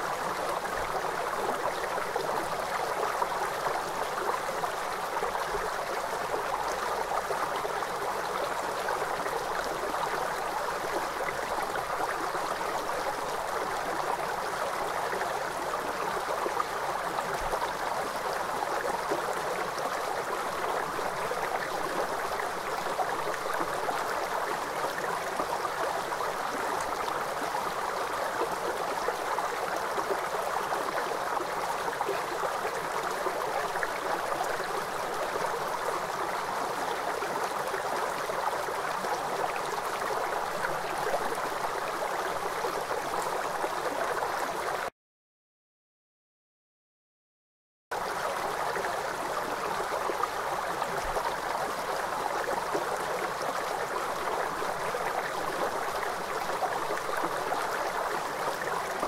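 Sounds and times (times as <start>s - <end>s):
river water flowing over rocks: 0.0s - 44.9s, 48.0s - 59.0s.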